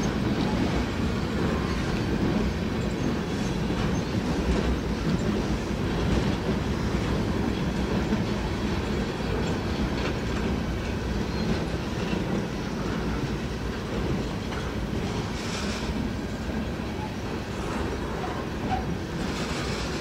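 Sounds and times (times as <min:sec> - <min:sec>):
train wheels rumbling on rails: 0:00.0 - 0:20.0
wheels clicking over rail joints: 0:00.0 - 0:20.0.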